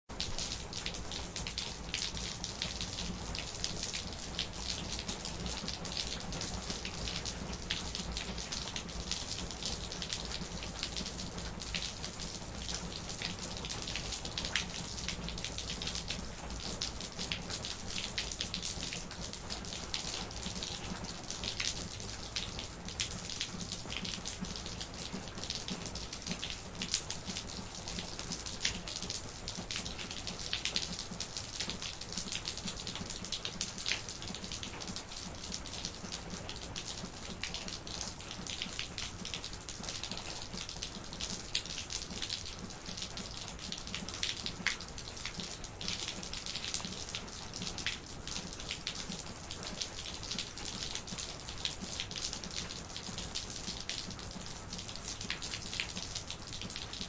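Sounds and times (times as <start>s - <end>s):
rain drops tapping: 0.1s - 57.0s.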